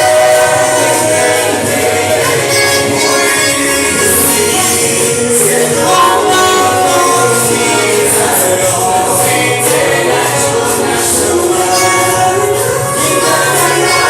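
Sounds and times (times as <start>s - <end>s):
choir singing gospel: 0.0s - 14.0s
high-pitched percussion beat: 0.0s - 14.0s.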